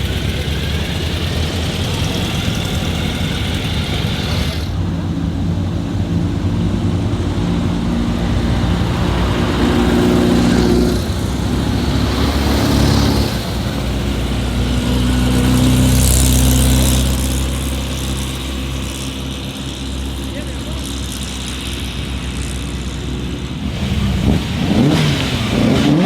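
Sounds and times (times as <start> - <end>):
old car engines running: 0.0 - 26.0.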